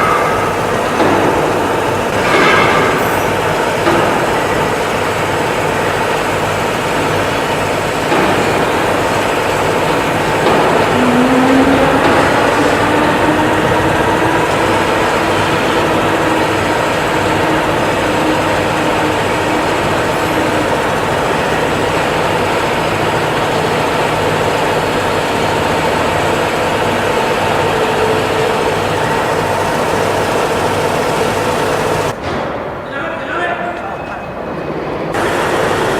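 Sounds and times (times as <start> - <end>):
steady humming tone: 0.0 - 35.9.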